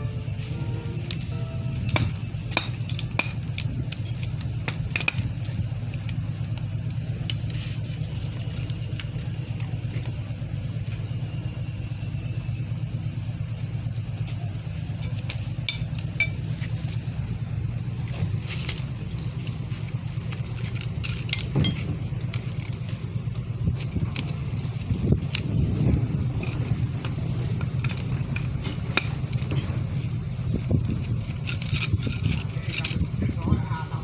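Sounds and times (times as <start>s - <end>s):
motor hum: 0.0s - 34.0s.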